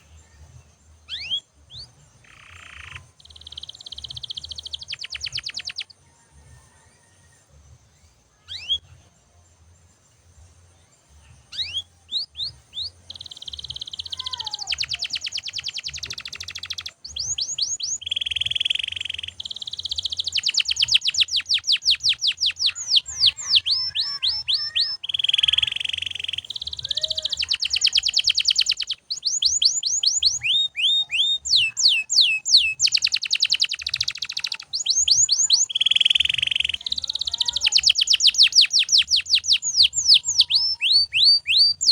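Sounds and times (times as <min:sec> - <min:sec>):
canary singing trills: 0:00.8 - 0:07.1, 0:08.4 - 0:09.0, 0:11.1 - 0:41.9.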